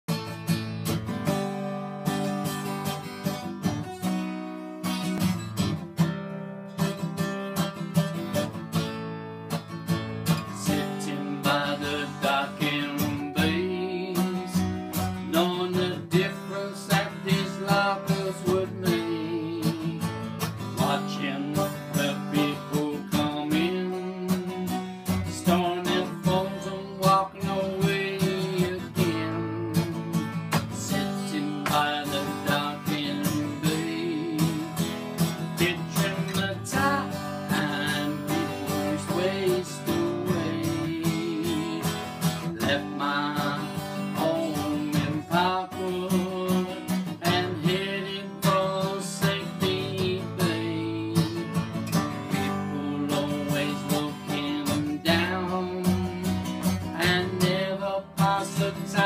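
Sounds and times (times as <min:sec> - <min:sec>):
acoustic guitar strumming: 0:00.1 - 0:59.0
man singing: 0:10.3 - 0:59.0.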